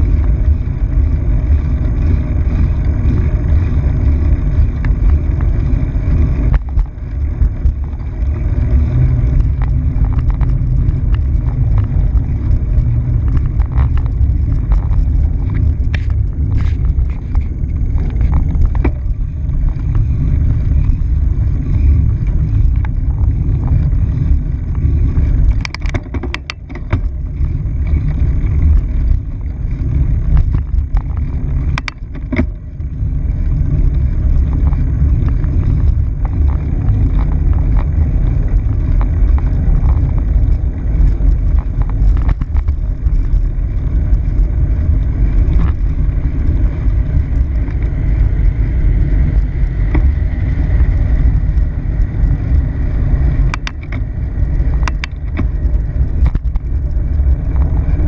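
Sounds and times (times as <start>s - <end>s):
bicycle tyre noise: 0.0s - 58.0s
bike clicks and rattles: 0.0s - 58.0s
wind on microphone: 0.0s - 58.0s.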